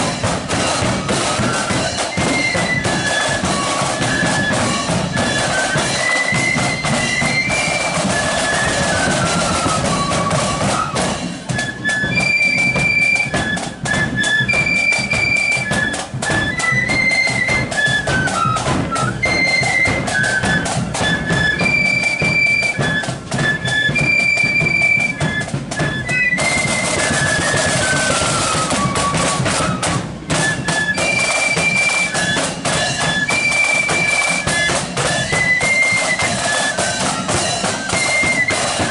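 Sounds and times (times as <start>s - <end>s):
flute melody: 0.0s - 38.9s
snare and bass drumming: 0.0s - 38.9s.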